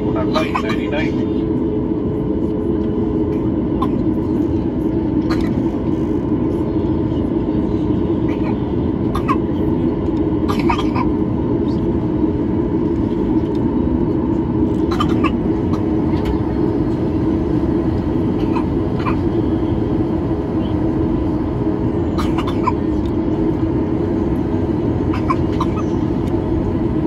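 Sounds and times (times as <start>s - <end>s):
airplane cabin engine drone: 0.0s - 27.0s
faint steady whine: 0.0s - 27.0s.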